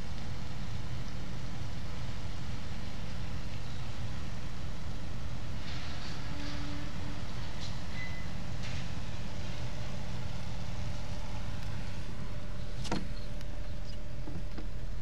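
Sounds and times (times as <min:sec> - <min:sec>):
faint steady hum: 0:00.0 - 0:15.0
ferry engine idling: 0:00.0 - 0:15.0.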